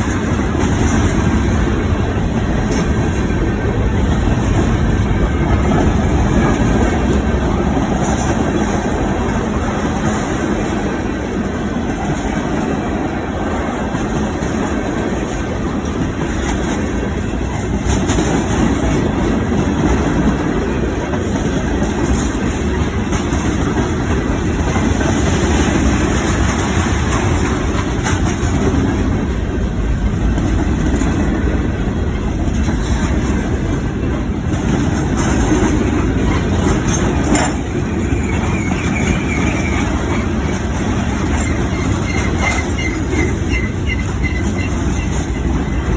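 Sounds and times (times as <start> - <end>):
train rumbling on rails: 0.0 - 45.9.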